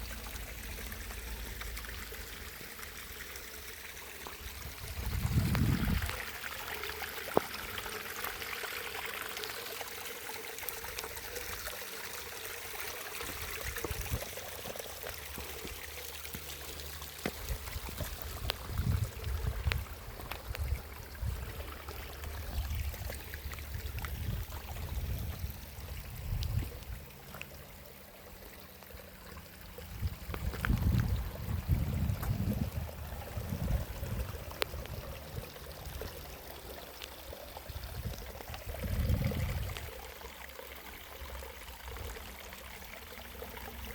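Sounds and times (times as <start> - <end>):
running water: 0.0 - 43.9.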